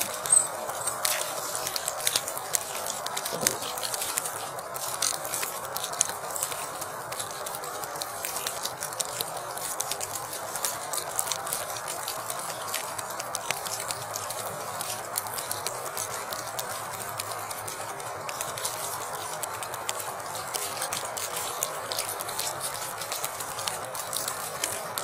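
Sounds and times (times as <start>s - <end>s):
wet snow pattering: 0.0s - 25.0s.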